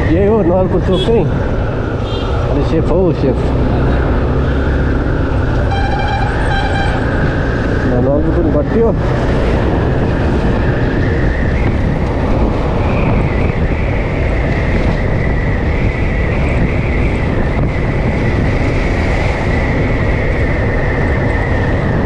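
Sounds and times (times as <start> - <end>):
motorcycle engine cruising: 0.0 - 22.0
wind rush on microphone: 0.0 - 22.0.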